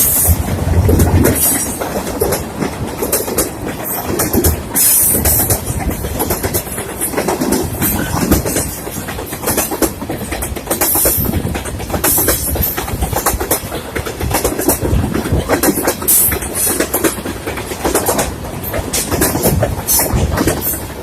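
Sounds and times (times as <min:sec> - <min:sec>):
train rolling on rails: 0:00.0 - 0:21.0
wheels clattering over rail joints: 0:00.0 - 0:21.0.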